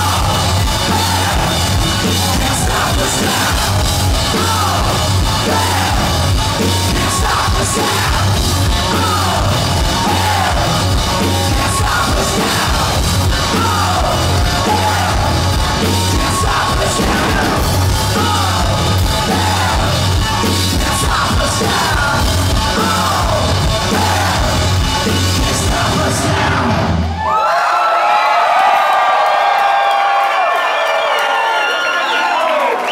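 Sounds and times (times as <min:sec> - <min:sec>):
distorted electric guitar: 0:00.0 - 0:27.1
drum kit: 0:00.0 - 0:27.1
bass guitar: 0:00.0 - 0:27.2
shouted lead vocal: 0:00.0 - 0:28.2.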